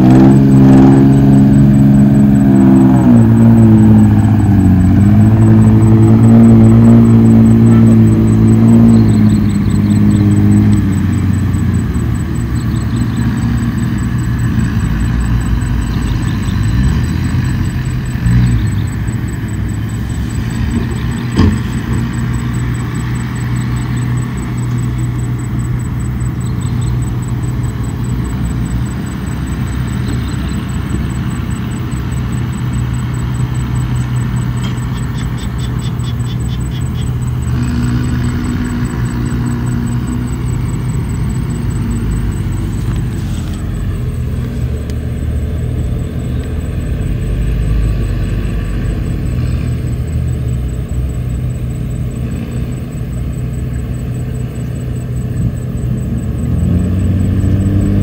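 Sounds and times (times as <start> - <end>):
bulldozer diesel engine rumbling: 0.0 - 58.0.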